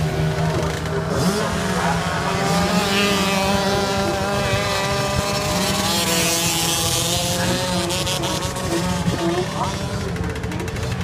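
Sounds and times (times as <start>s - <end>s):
minibike engines running: 0.0s - 11.0s.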